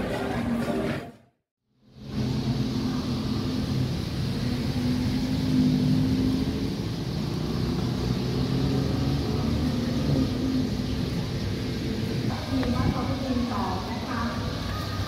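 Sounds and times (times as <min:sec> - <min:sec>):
steady engine hum: 0:01.7 - 0:15.0
vehicles passing: 0:01.8 - 0:15.0.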